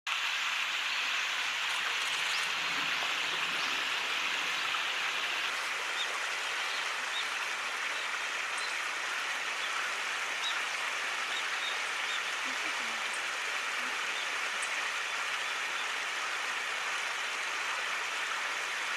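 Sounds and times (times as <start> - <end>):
flowing stream water: 0.1 - 18.9.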